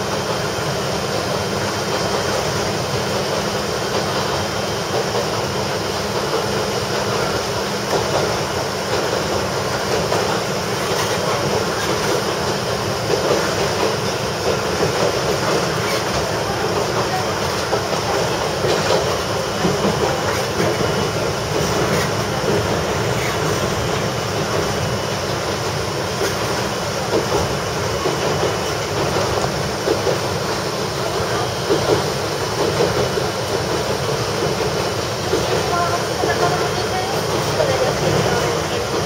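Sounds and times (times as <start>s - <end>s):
wheels rumbling on rail: 0.0s - 39.0s
knocks and rattles over track: 3.9s - 39.0s.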